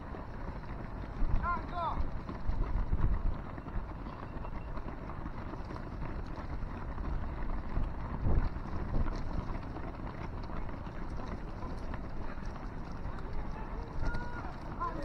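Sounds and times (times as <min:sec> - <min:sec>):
runners' shoes pattering on asphalt: 0:00.0 - 0:15.0
wind buffeting microphone: 0:00.0 - 0:15.0.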